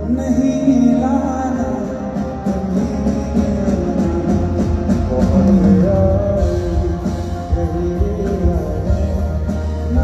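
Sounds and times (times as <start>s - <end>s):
live band instrumental: 0.0s - 10.0s.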